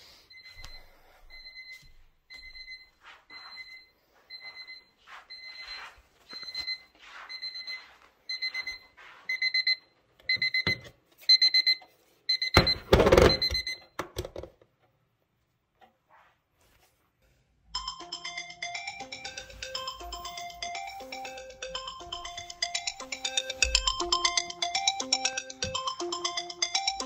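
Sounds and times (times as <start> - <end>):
alarm clock beeping: 0.1 - 13.9, 17.8 - 27.0.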